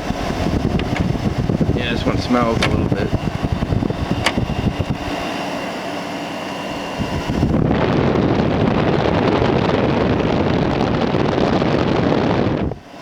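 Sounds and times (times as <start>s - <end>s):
wind buffeting microphone: 0.0s - 13.0s
window air conditioner running: 0.0s - 13.0s.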